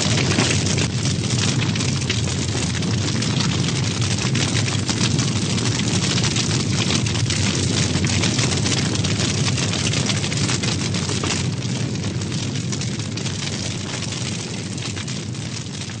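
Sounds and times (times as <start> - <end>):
bonfire roaring and crackling: 0.0 - 16.0.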